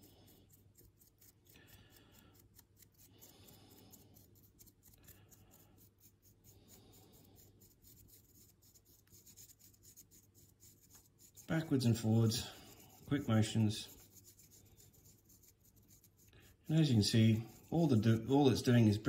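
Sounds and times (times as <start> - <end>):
paintbrush scratching on plastic: 0.0 - 19.0.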